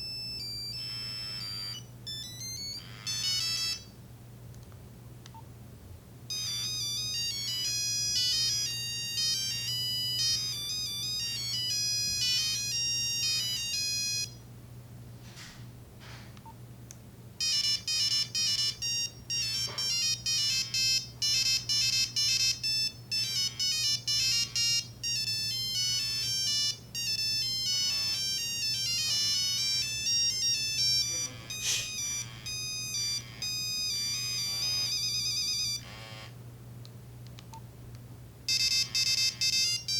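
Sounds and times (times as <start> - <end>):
mobile phone ringtone melody: 0.0 - 3.9, 6.3 - 14.4, 17.4 - 36.3, 38.5 - 39.9.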